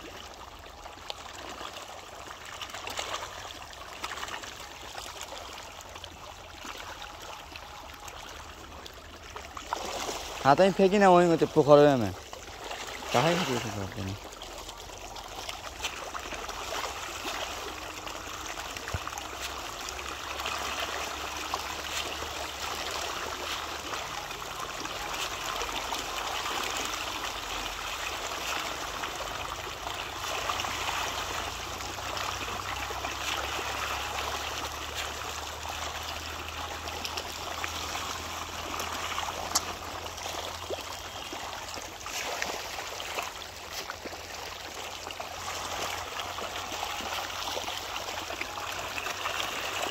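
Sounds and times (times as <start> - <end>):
fish splashing at water surface: 0.0 - 49.9.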